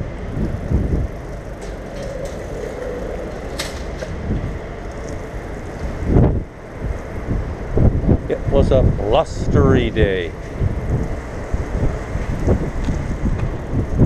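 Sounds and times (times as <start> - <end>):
bicycle tyres rumbling: 0.0 - 14.0
wind on microphone: 0.0 - 14.0.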